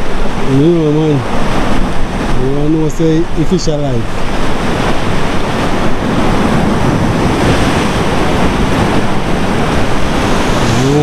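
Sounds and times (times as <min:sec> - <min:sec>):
sea surf washing in: 0:00.0 - 0:11.0
wind buffeting microphone: 0:00.0 - 0:11.0.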